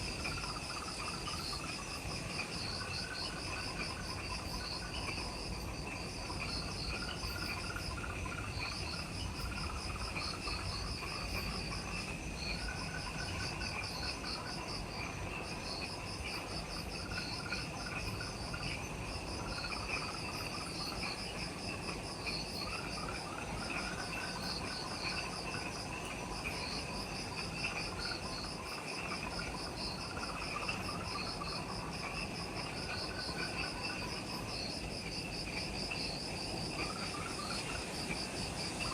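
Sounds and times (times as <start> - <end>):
high pulsing insect trill: 0.0 - 38.9
lower chirping insect trills: 0.0 - 38.9.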